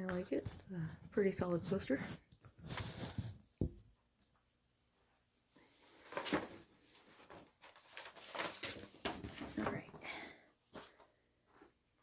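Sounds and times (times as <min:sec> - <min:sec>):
paper poster rustling and crinkling: 0:00.0 - 0:03.5, 0:05.8 - 0:12.0.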